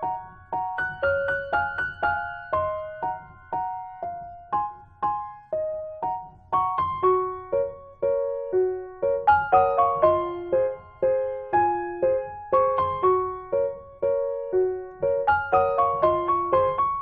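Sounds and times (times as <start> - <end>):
simple piano melody: 0.0 - 17.0.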